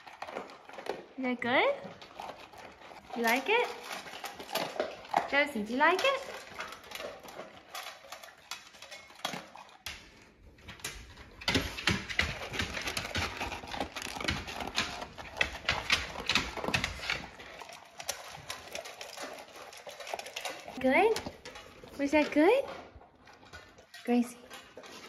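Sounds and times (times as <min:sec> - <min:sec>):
dogs crunching kibble: 0:00.0 - 0:25.0
kibble rattling in metal bowls: 0:00.0 - 0:25.0.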